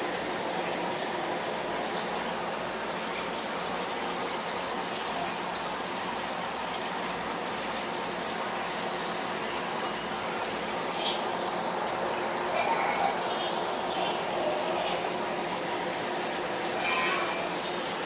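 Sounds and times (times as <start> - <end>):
filter water splashing: 0.0 - 18.0.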